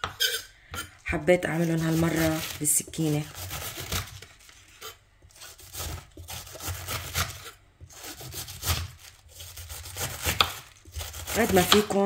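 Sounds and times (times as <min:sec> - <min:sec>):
knife cutting cabbage on board: 0:01.6 - 0:12.0.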